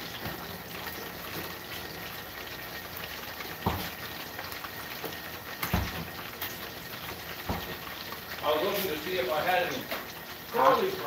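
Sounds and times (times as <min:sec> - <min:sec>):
oil sizzling in a deep fryer: 0:00.0 - 0:11.0.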